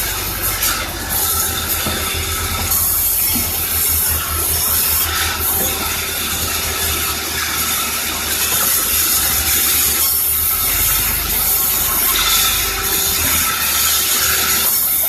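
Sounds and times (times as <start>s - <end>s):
low machine hum: 0.0s - 14.8s
saw rasping through timber: 0.0s - 15.0s.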